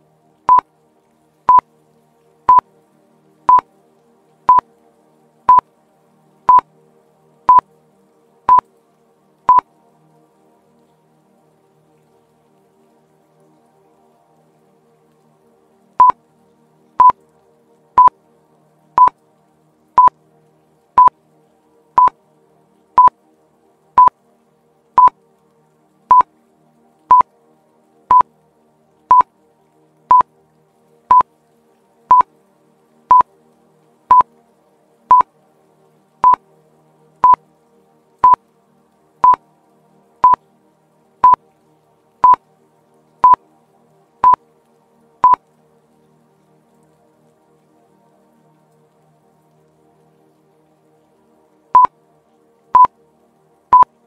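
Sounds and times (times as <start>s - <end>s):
faint background music: 0.0s - 54.0s.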